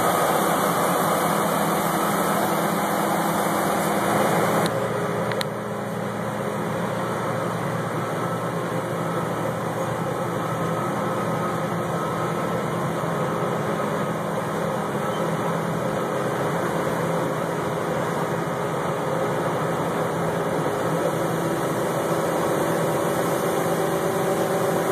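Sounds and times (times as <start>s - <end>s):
combine harvester running: 0.0s - 24.9s.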